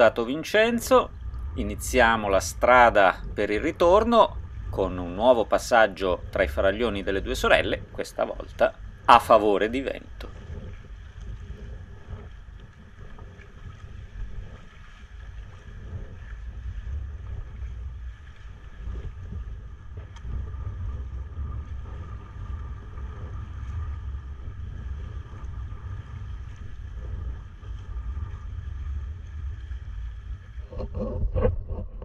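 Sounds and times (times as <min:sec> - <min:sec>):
faint sea water sounds: 0:00.0 - 0:32.0
wind buffeting microphone: 0:00.0 - 0:32.0.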